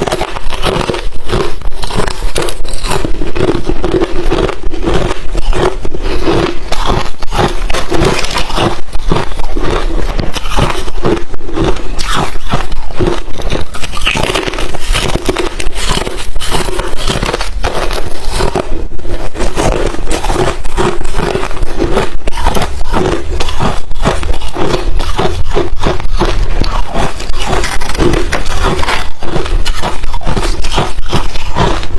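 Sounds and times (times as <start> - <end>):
ice chips being chewed: 0.0 - 31.9.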